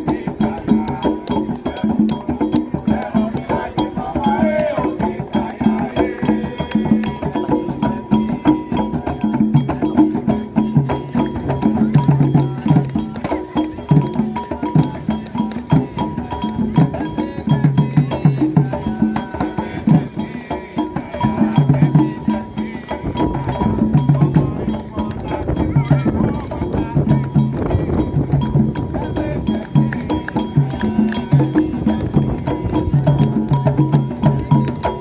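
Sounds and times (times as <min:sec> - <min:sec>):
hand drums playing fast rhythm: 0:00.0 - 0:35.0.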